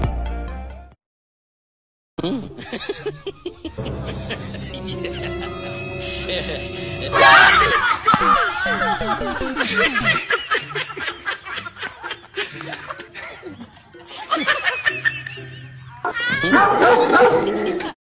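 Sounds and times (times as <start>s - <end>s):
background music with bass line: 0.0s - 0.9s, 2.2s - 16.0s
people laughing: 2.2s - 18.0s.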